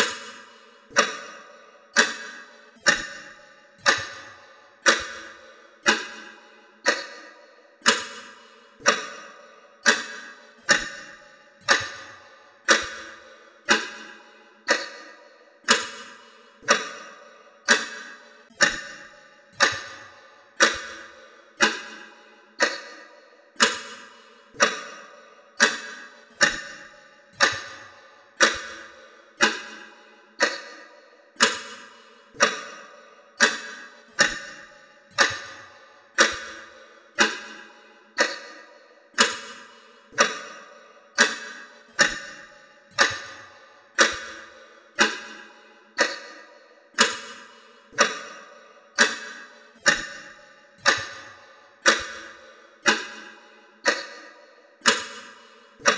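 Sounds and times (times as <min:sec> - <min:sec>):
clock ticking: 0:00.0 - 0:55.9.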